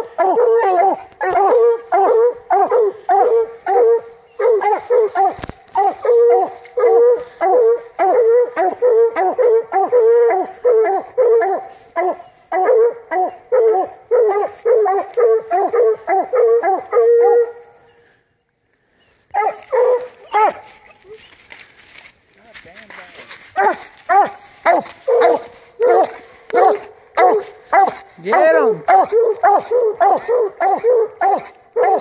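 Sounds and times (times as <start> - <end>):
dog barking loudly: 0.0 - 17.6, 19.3 - 20.7, 23.6 - 32.0.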